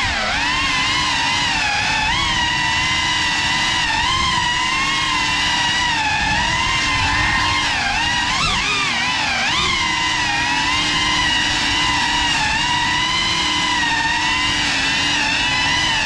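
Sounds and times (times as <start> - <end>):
drone motors whining: 0.0 - 16.0
rushing prop wash: 0.0 - 16.0.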